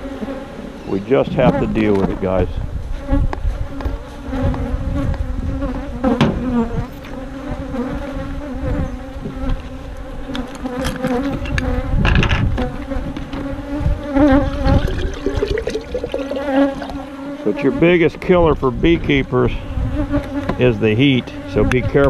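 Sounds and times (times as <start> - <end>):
bees buzzing: 0.0 - 18.2, 19.1 - 22.0.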